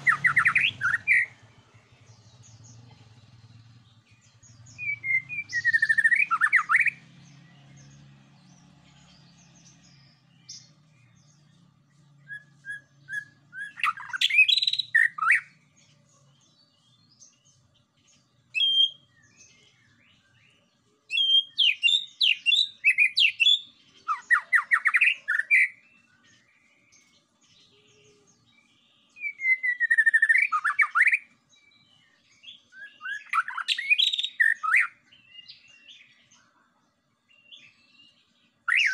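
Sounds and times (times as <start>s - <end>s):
bird singing whistled rattling notes: 0.0s - 15.6s, 18.1s - 20.4s, 21.1s - 36.2s, 37.3s - 38.9s.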